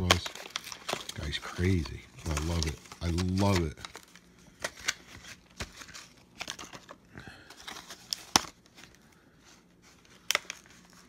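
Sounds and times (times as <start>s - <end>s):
packaging crinkling and clicking: 0.0s - 9.0s, 10.0s - 11.0s.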